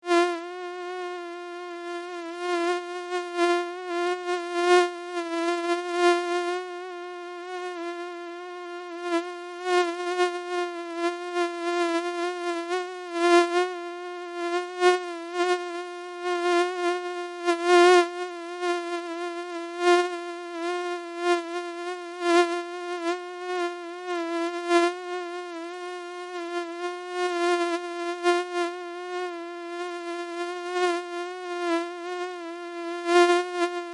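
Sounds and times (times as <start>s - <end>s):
mosquito buzzing: 0.0s - 33.9s.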